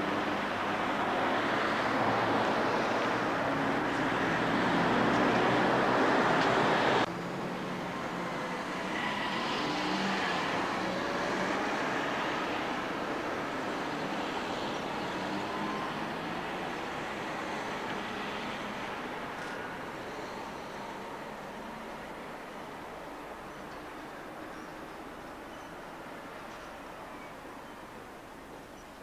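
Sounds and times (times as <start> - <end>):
cars passing on street: 0.0 - 29.0.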